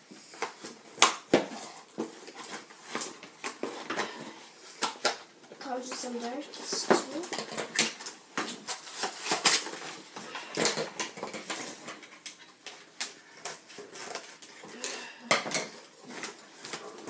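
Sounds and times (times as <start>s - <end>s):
cardboard rustling and tearing: 0.2s - 14.9s.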